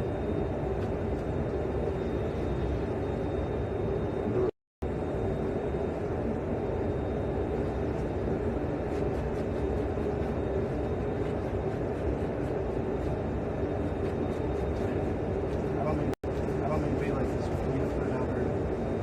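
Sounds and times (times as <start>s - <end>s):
jet cabin engine rumble: 0.0s - 19.0s.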